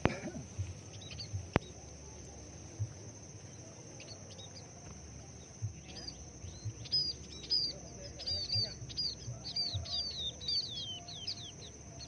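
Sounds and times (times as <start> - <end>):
soft low thumps: 0.0 - 10.7
high insect buzz: 0.0 - 12.0
small birds chirping: 0.0 - 12.0.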